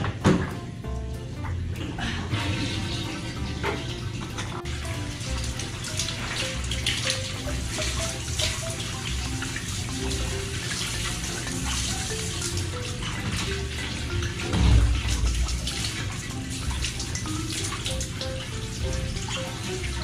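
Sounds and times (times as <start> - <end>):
running water: 0.0 - 20.0
simple melody background music: 0.0 - 20.0.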